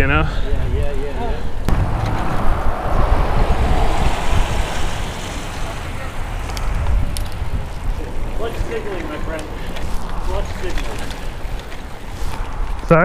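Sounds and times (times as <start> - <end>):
wind rumbling on microphone: 0.4 - 13.0
motor vehicle passing: 1.7 - 13.0.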